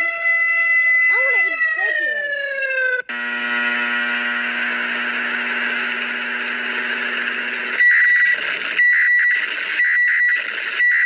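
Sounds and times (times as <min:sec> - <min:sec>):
buzzing alarm drone: 0:00.6 - 0:11.0.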